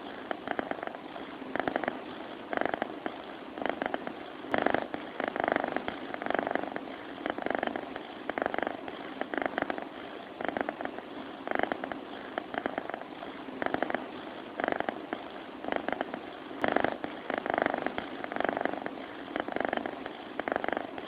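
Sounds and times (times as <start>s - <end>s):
cat purring and snoring: 0.0s - 21.0s.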